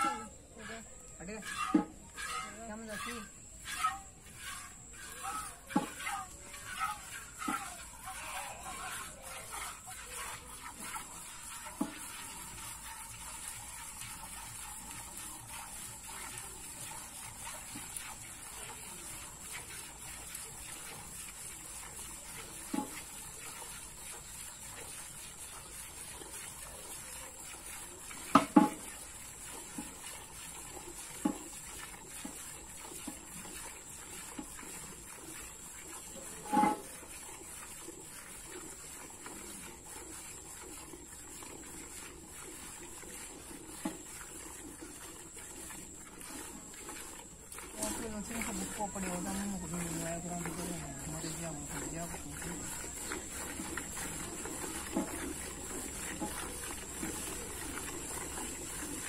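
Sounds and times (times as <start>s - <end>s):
milk squirting into metal pail: 0.0s - 59.0s.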